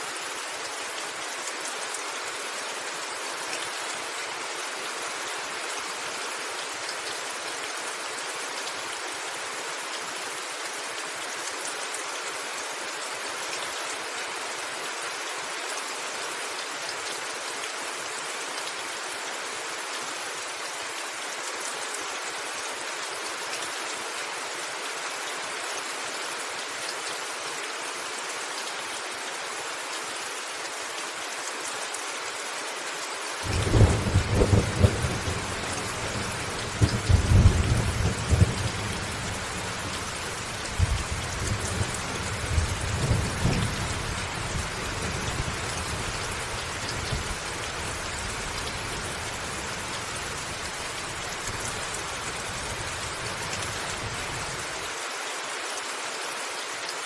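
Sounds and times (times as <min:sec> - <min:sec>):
rain on a rooftop: 0:00.0 - 0:57.0.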